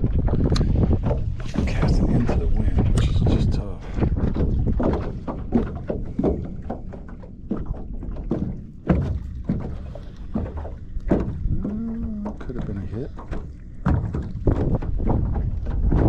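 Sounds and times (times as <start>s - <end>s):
waves slapping against hull: 0.0s - 16.0s
wind rumble on microphone: 0.0s - 16.0s.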